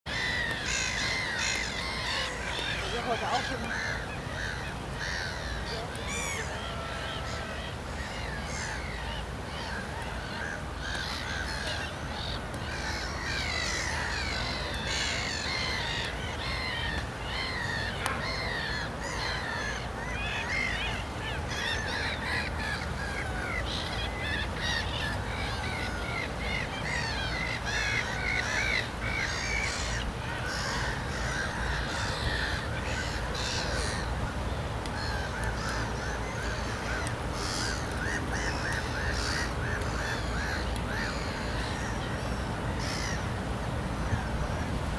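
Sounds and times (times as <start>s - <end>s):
flock of birds chattering: 0.1s - 44.8s.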